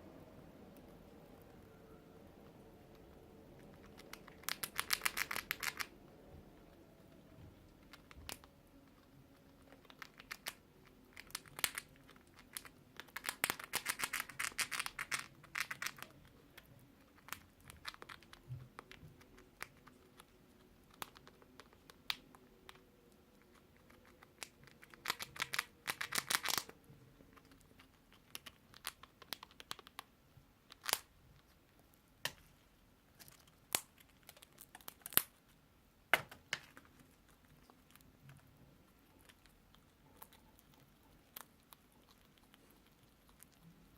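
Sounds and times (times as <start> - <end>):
dry crinkling and crackling: 7.2 - 43.9.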